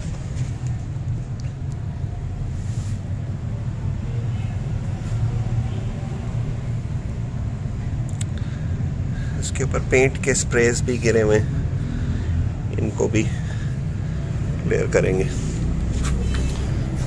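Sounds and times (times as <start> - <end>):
low mechanical rumble with hum: 0.0 - 17.0.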